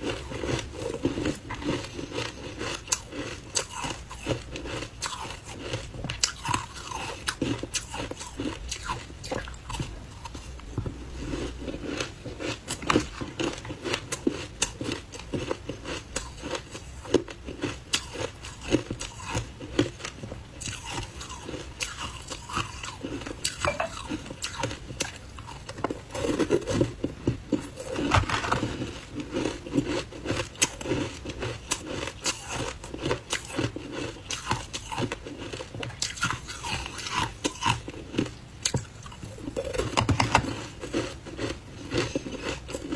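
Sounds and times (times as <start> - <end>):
ice crunching while chewed: 0.0 - 42.9.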